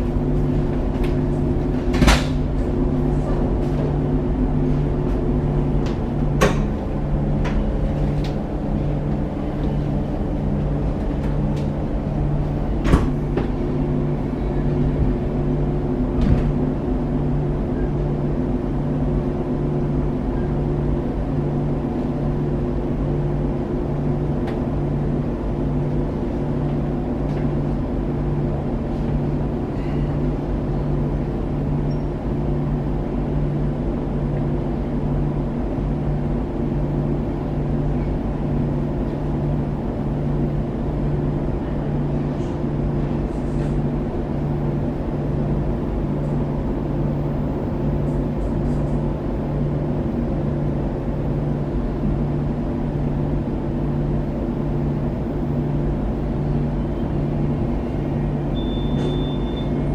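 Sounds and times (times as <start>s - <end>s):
train carriage low hum: 0.0s - 59.9s.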